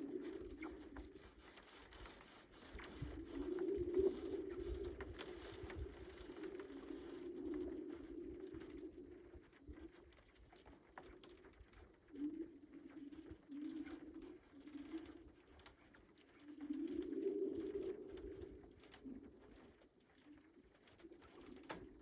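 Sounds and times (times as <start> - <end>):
lake ice moaning hums: 0.0 - 10.6, 11.2 - 22.0
faint ice ticks: 0.0 - 22.0.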